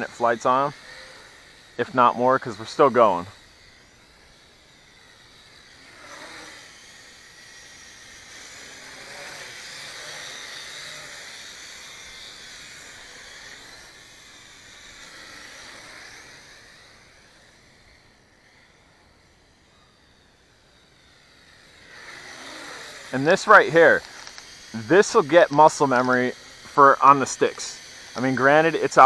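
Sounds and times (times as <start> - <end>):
quadcopter propellers buzzing: 0.0 - 29.0.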